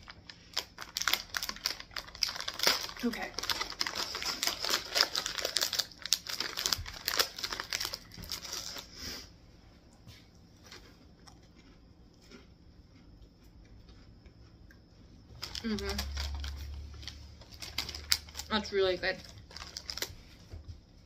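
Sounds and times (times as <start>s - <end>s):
snack packaging crinkling and tearing: 0.0s - 9.4s, 10.6s - 14.3s, 15.2s - 20.6s.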